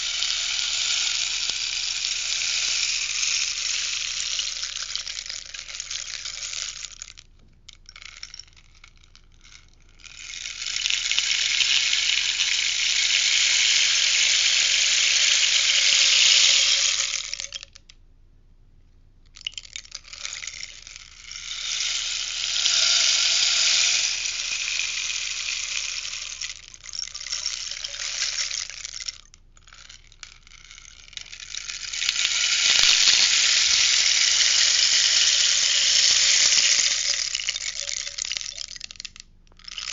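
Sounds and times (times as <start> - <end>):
rainstick trickling: 0.0 - 17.9, 19.3 - 39.9.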